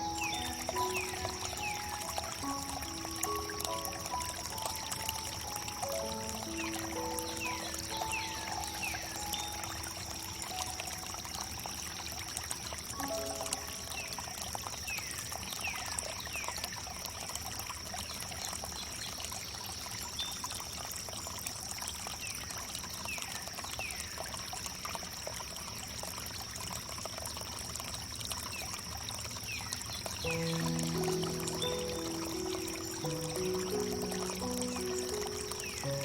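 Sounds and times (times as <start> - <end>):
water trickling over wood: 0.0 - 36.0.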